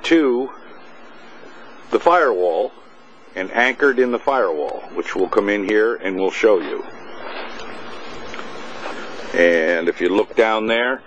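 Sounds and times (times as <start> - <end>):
steady rushing noise: 0.0 - 10.6.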